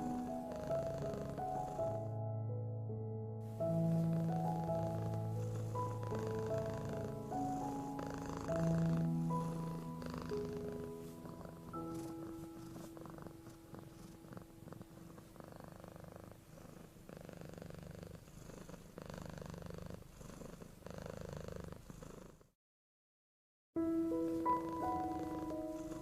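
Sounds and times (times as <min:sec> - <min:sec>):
cat purring: 0:00.0 - 0:02.1, 0:03.4 - 0:22.6, 0:24.2 - 0:26.0.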